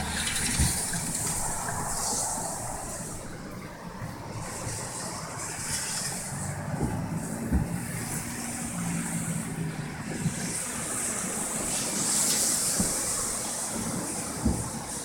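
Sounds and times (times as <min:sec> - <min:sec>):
vehicle engine humming past: 0:00.0 - 0:13.8.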